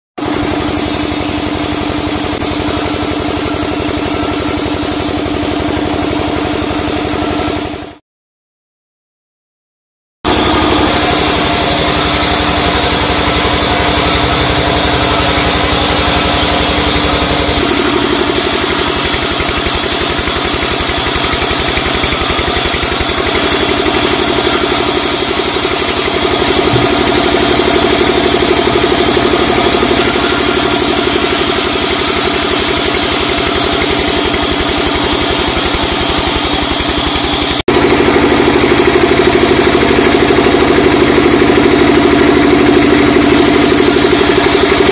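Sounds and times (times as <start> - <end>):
band saw cutting timber: 0.2 - 8.0, 10.3 - 44.9.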